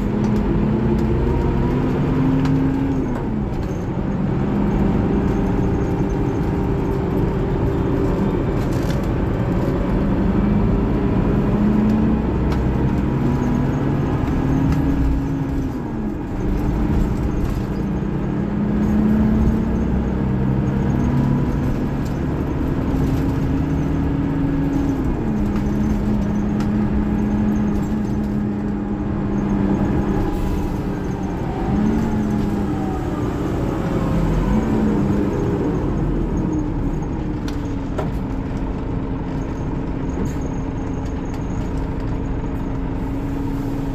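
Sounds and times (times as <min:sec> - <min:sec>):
diesel bus engine under load: 0:00.0 - 0:43.9.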